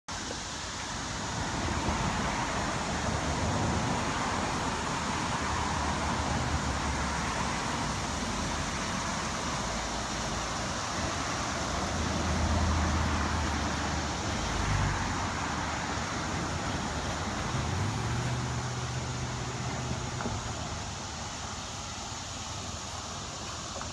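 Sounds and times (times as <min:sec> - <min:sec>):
tyre and road noise: 0:00.1 - 0:23.9
vehicle engine hum: 0:00.1 - 0:23.9.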